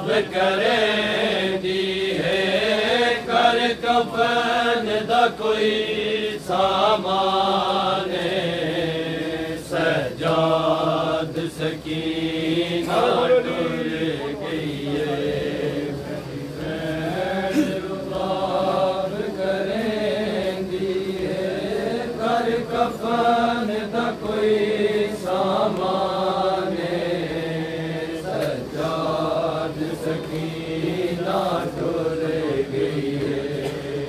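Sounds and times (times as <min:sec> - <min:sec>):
men chanting a lament: 0:00.0 - 0:34.0.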